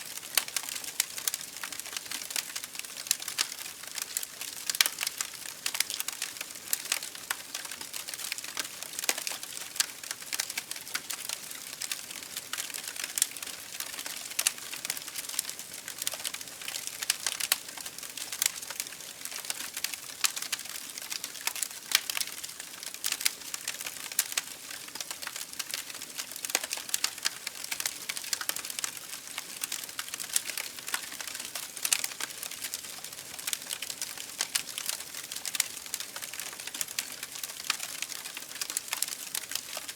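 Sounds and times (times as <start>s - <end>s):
wood crackling and popping: 0.1s - 39.9s.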